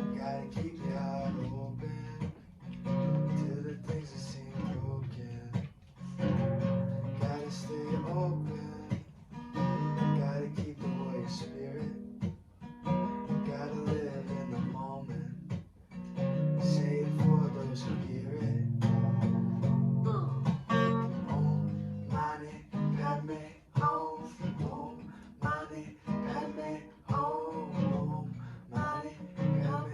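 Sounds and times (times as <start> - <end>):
acoustic guitar strumming chords: 0.0 - 29.9.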